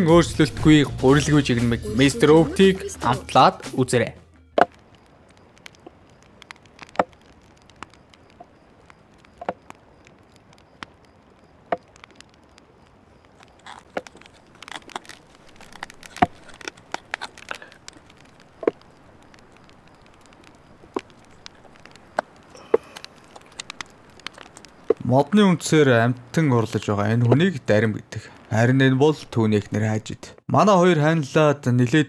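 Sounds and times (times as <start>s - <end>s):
faint steady hiss: 1.0s - 32.0s.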